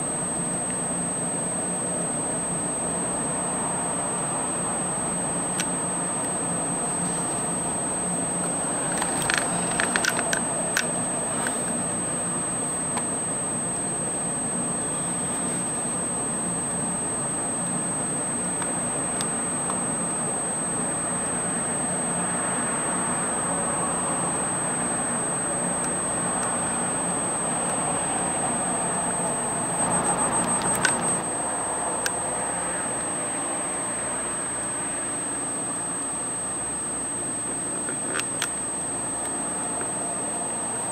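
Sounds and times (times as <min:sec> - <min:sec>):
constant background noise: 0:00.0 - 0:40.9
high-pitched electronic whine: 0:00.0 - 0:40.9.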